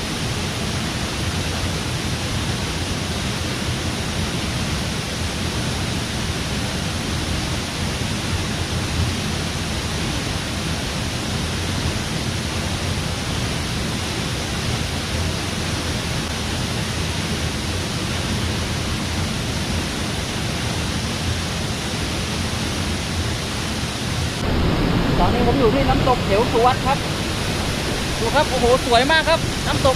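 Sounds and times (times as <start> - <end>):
waterfall rushing into pool: 0.0 - 29.9.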